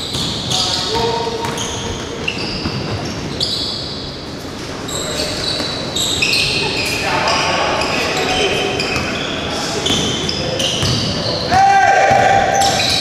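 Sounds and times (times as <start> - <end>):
sneakers squeaking on wooden floor: 0.0 - 13.0.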